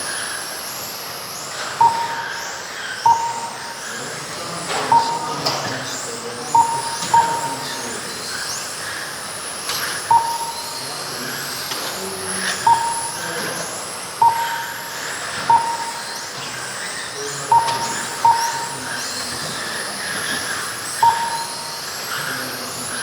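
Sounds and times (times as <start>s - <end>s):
rc car motors whining: 0.0s - 23.0s
short beeps: 1.8s - 8.2s, 10.0s - 23.0s.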